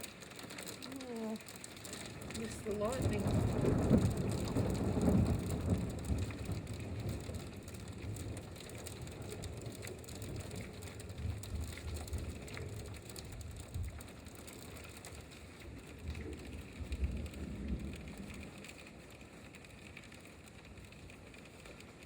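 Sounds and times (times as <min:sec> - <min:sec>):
hail and rain striking ground: 0:00.0 - 0:22.0.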